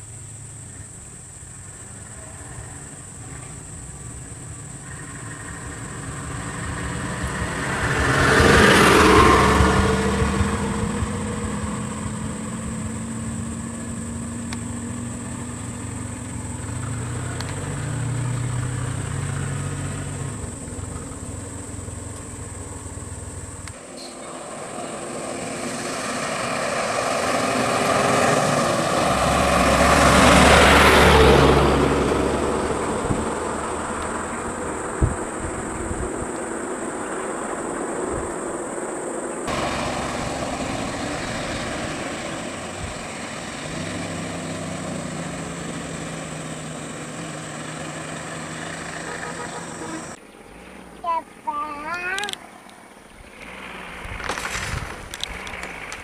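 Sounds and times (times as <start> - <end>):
motor vehicles passing by: 0.0 - 56.0.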